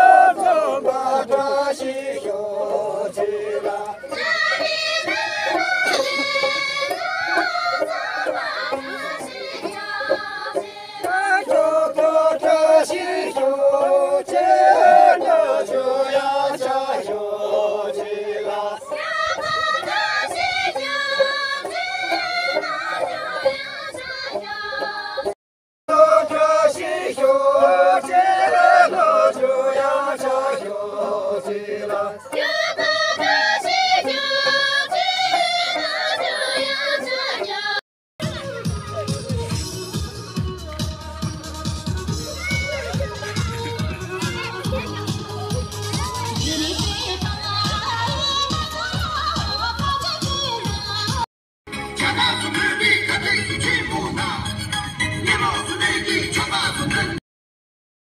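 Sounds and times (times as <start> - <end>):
group singing folk song: 0.0 - 37.8, 40.9 - 51.2.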